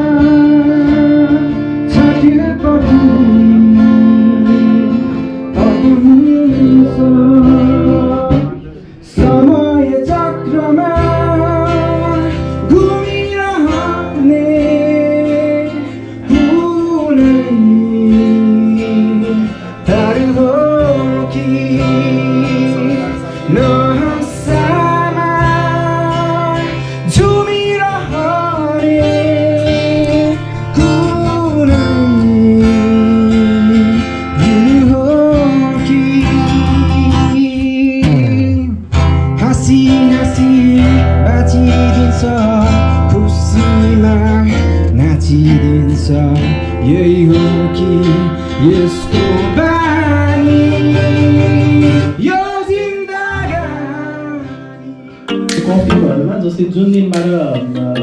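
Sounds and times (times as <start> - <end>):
acoustic guitar strumming: 0.0 - 58.0
person singing: 0.0 - 58.0.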